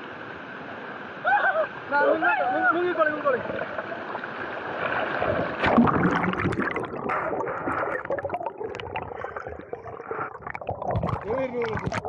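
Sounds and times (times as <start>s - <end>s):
stream water rushing and gurgling: 0.0s - 12.0s.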